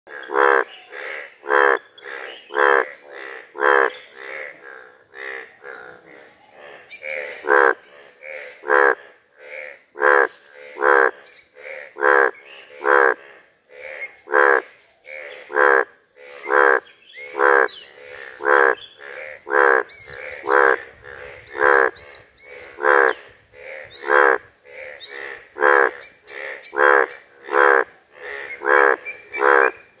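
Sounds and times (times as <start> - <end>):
bullfrog croaking: 0.1 - 30.0.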